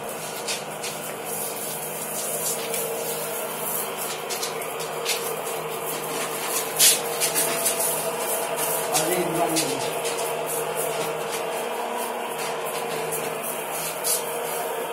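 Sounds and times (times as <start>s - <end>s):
sprayer motor hum: 0.0s - 14.9s
sprayer spray hiss: 0.0s - 14.9s.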